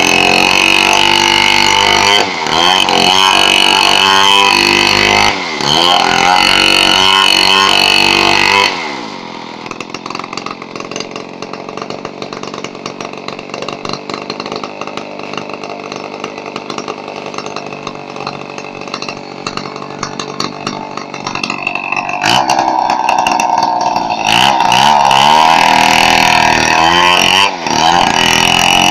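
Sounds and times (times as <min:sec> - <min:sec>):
two-stroke chainsaw revving: 0:00.0 - 0:28.9.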